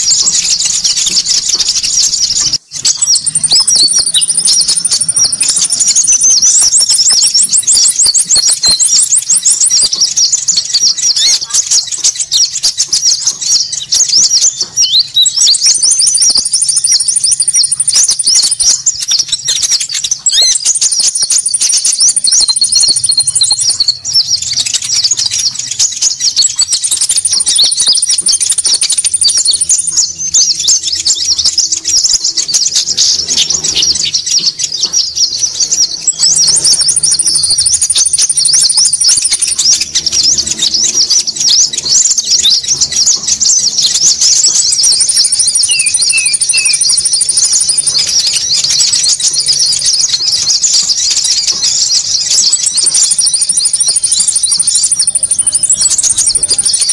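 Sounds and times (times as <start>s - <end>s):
small birds chattering: 0.0s - 56.9s.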